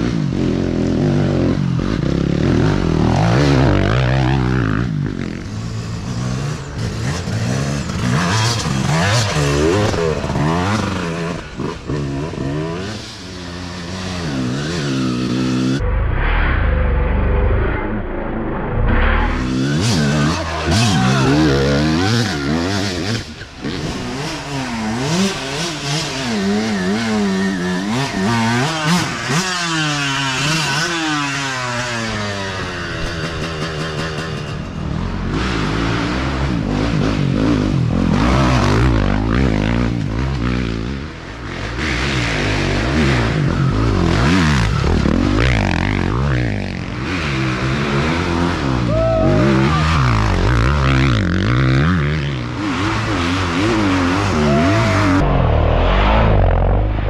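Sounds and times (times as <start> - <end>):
dirt bike engines revving: 0.0 - 15.8, 18.9 - 57.0
motorcycle passing close: 0.0 - 57.0.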